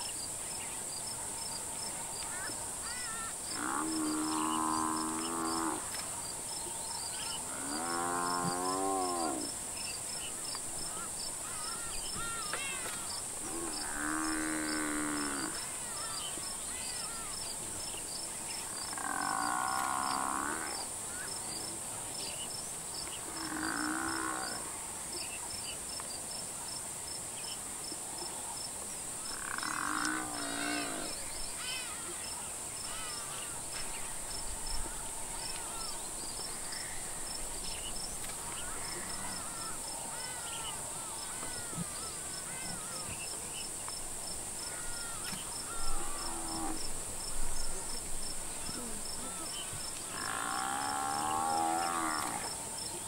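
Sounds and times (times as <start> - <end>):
insects buzzing and ticking: 0.0 - 53.0.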